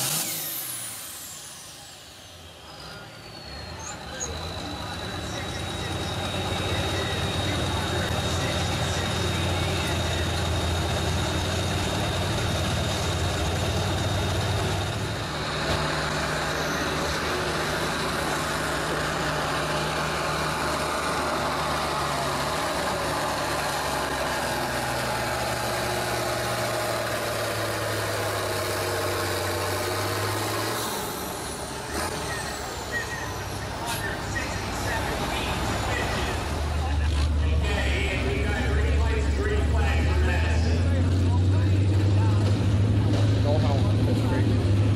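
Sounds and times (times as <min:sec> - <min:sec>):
pulling tractor engine running: 0:00.0 - 0:44.9
tractor engine labouring: 0:00.0 - 0:44.9.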